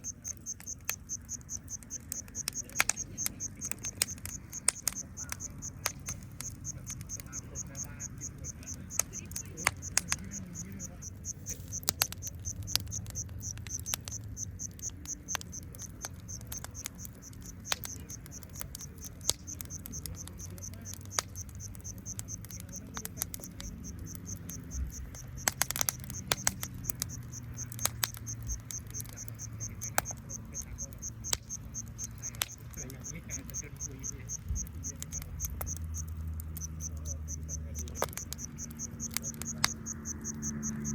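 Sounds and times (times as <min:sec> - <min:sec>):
insects chirping: 0:00.0 - 0:40.9
wood fire crackling and popping: 0:00.0 - 0:40.9.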